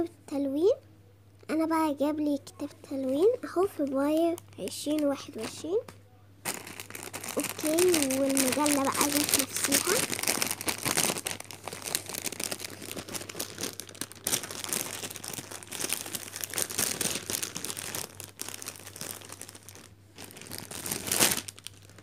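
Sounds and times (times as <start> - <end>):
plastic wrapping crinkling: 3.0 - 22.0.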